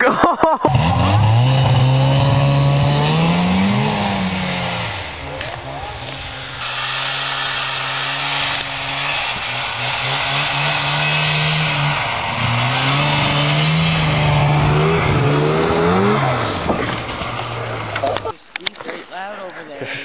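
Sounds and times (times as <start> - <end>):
snowmobile engine revving: 0.0 - 19.1.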